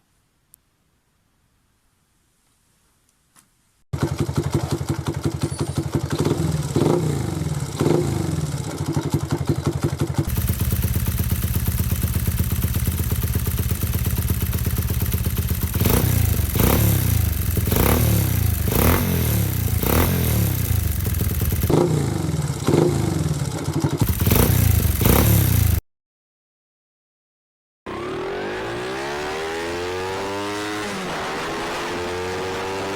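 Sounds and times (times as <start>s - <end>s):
motorcycle engine revving: 4.0s - 25.8s, 27.9s - 32.9s.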